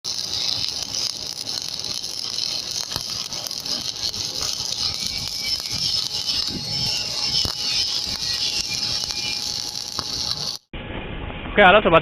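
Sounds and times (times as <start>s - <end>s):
welding arc crackling: 0.0s - 10.7s.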